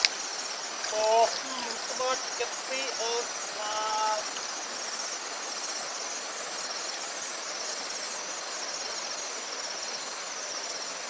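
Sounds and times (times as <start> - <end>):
constant hiss: 0.0 - 11.0
insects trilling: 0.0 - 11.0.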